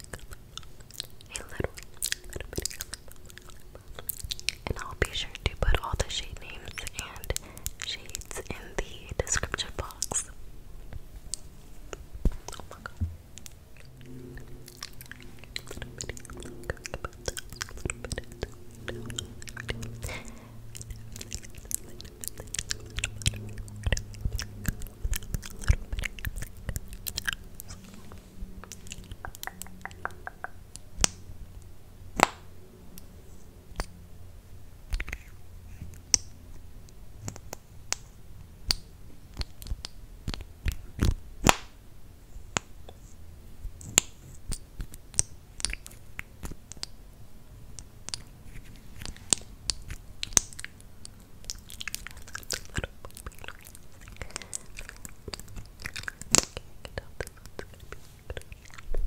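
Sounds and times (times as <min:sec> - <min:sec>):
wet lip smacks and clicks: 0:00.0 - 0:10.3, 0:11.3 - 0:27.9, 0:28.6 - 0:31.2, 0:33.7 - 0:34.0, 0:34.9 - 0:36.4, 0:37.2 - 0:41.7, 0:43.8 - 0:47.0, 0:47.7 - 0:59.0
low steady hum: 0:00.0 - 0:59.0.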